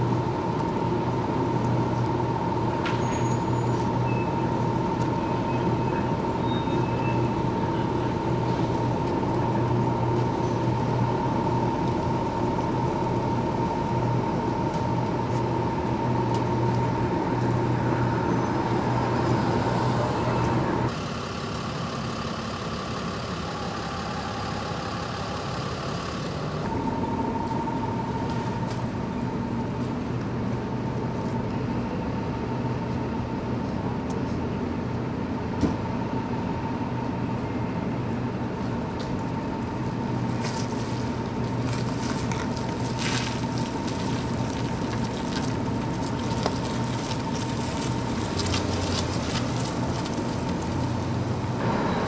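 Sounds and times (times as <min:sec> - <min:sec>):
constant high whine: 0:00.0 - 0:52.0
fire engines idling: 0:00.0 - 0:52.0.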